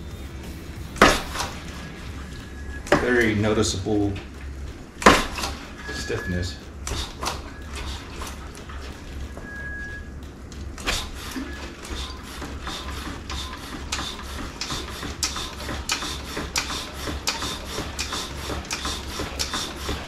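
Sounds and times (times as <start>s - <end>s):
steady low hum: 0.0s - 20.0s
suspension forks clicking and knocking: 0.0s - 20.0s.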